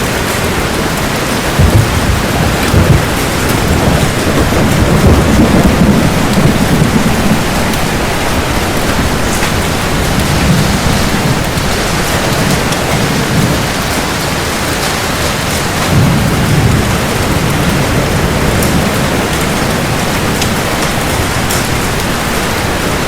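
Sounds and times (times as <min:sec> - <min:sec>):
heavy rain falling: 0:00.0 - 0:23.0
low thunder rolling: 0:00.0 - 0:23.0.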